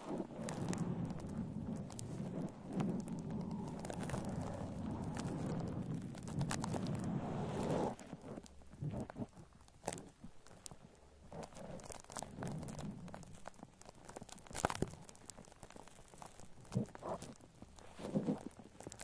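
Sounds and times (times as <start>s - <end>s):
foam squished and rubbed: 0.0s - 19.0s.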